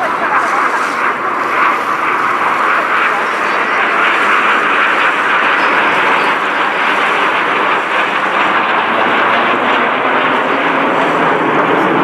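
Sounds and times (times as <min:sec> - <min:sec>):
jets flying over: 0:00.0 - 0:12.0.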